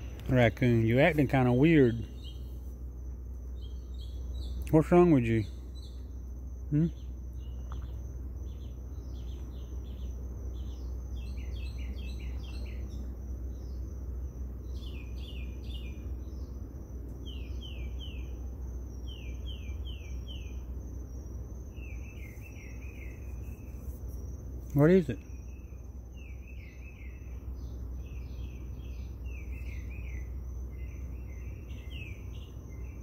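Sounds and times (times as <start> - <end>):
high-pitched insect drone: 0.0 - 33.0
low hum: 0.0 - 33.0.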